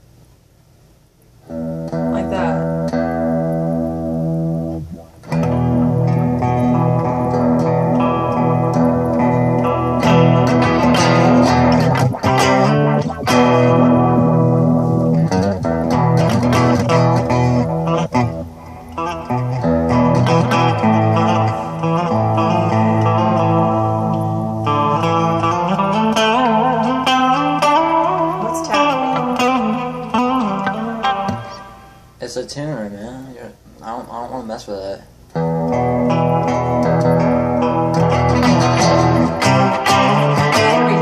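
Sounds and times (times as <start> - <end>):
electric guitar chords ringing: 1.4 - 32.2, 35.1 - 41.0.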